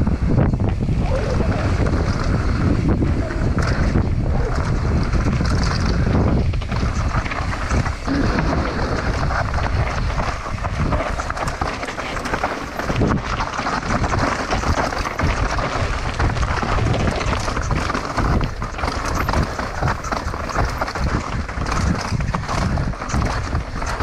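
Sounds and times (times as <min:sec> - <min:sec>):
mountain bike rattling: 0:00.0 - 0:24.0
tyre noise on dirt: 0:00.0 - 0:24.0
wind on microphone: 0:00.0 - 0:24.0.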